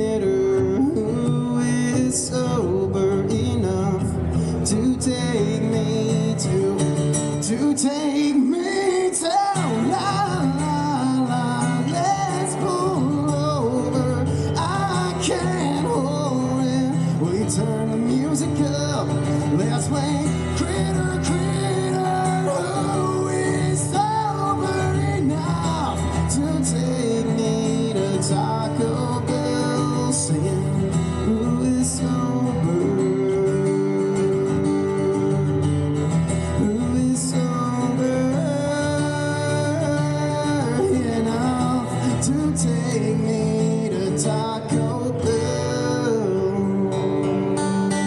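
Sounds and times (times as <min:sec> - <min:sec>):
acoustic guitar: 0:00.0 - 0:48.0
man singing: 0:00.0 - 0:48.0.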